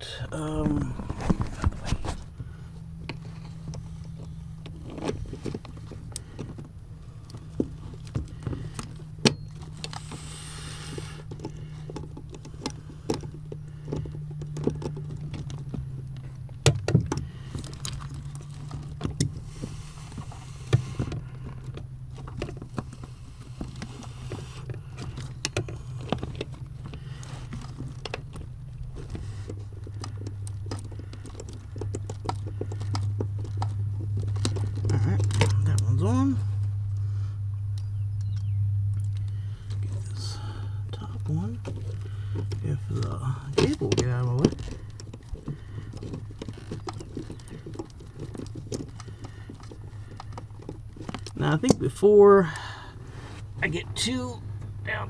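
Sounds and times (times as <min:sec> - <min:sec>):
low hum: 0:00.0 - 0:55.0.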